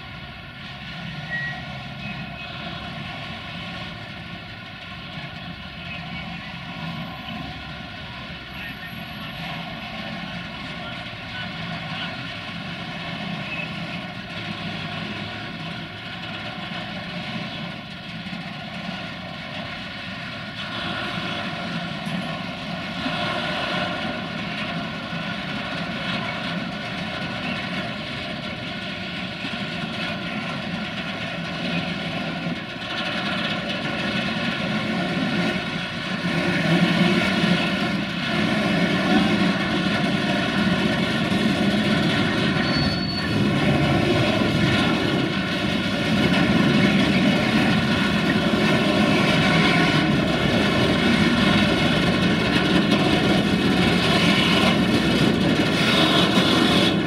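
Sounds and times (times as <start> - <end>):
diesel train engine droning: 0.0 - 57.0.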